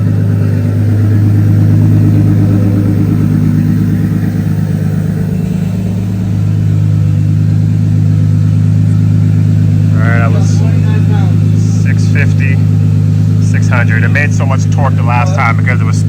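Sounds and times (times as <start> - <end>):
mechanical drone: 0.0 - 16.0.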